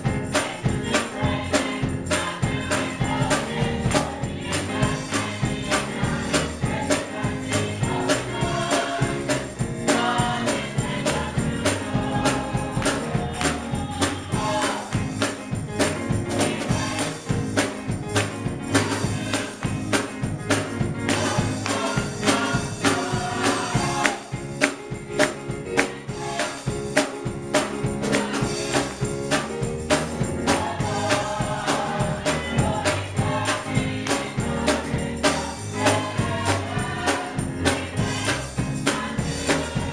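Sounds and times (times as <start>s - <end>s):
gospel choir singing: 0.0s - 39.9s
tambourine beat: 0.0s - 39.9s.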